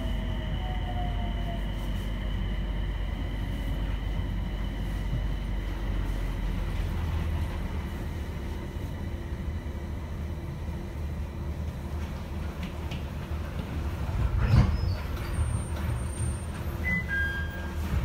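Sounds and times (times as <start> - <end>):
train motors humming: 0.0 - 18.0.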